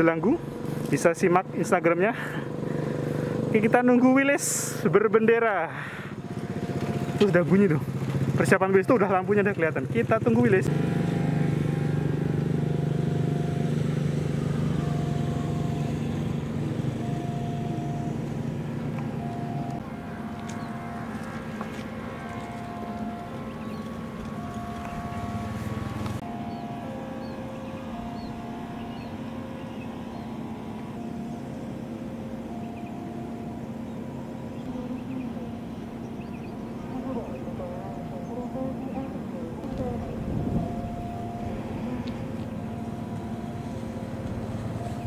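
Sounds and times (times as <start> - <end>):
level crossing warning tone: 0.0 - 45.0
low engine hum: 0.0 - 45.0.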